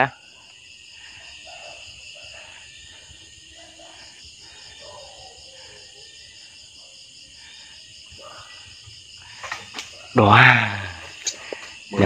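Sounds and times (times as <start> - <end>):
crickets and insects chirring: 0.0 - 12.0.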